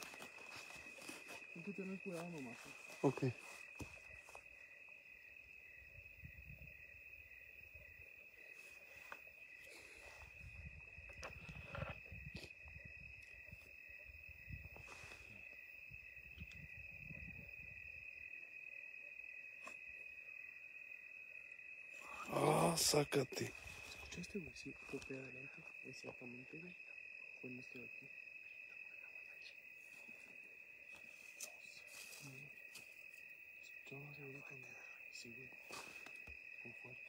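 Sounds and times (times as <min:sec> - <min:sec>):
crickets chirping: 0:00.0 - 0:37.0.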